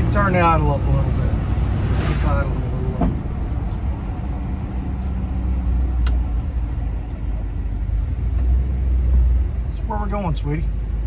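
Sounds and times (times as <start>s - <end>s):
engine running: 0.0s - 11.0s
road noise: 0.0s - 11.0s.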